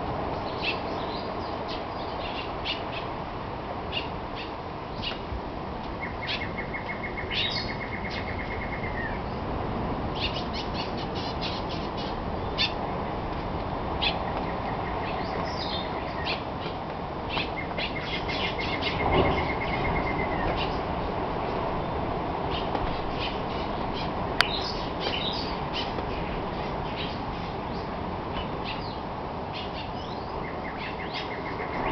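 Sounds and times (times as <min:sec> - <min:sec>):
birds chirping and calling: 0:00.3 - 0:03.2, 0:03.9 - 0:05.3, 0:05.9 - 0:09.5, 0:10.1 - 0:13.1, 0:13.9 - 0:21.1, 0:21.9 - 0:31.9.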